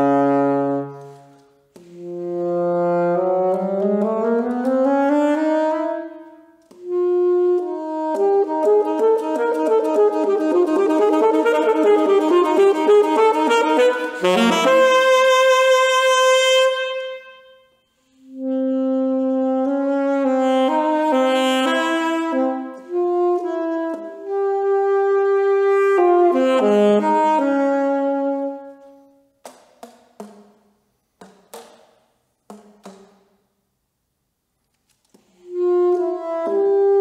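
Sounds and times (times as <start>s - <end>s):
alto saxophone solo: 0.0s - 29.3s, 35.3s - 37.0s.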